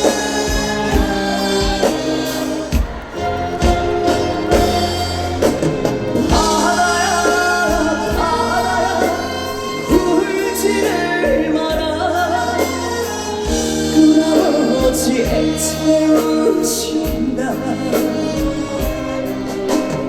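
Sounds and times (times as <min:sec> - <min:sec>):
band accompaniment: 0:00.0 - 0:20.0
person singing: 0:00.0 - 0:20.0.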